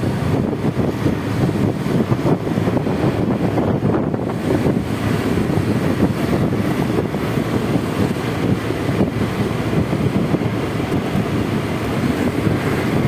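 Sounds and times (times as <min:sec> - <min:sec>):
road and traffic noise: 0:00.0 - 0:13.0
wind buffeting microphone: 0:00.0 - 0:13.0.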